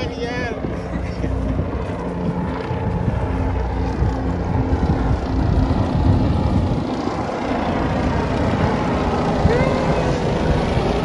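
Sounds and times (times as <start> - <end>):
helicopters flying overhead: 0.0 - 11.0.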